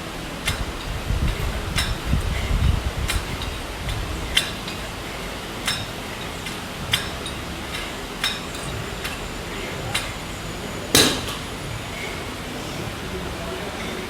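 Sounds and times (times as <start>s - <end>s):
steady background hiss: 0.0s - 14.0s
gym equipment metallic clinks: 0.4s - 12.2s.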